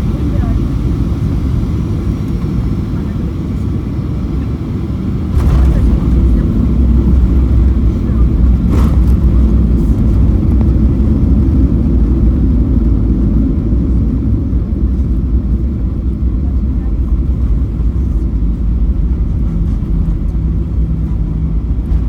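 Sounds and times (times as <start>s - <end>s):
aircraft engines and airflow rumble: 0.0s - 22.0s.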